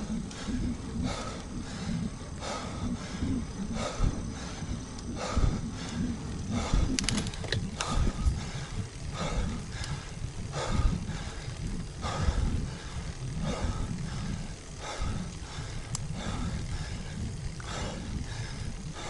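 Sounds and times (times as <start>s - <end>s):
low wind rumble on microphone: 0.0s - 19.0s
person breathing hard: 0.0s - 19.0s.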